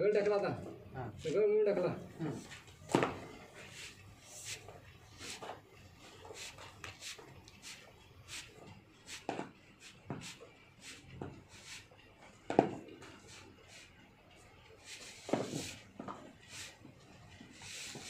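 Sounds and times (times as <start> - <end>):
wires rustling and scraping: 2.1 - 18.0.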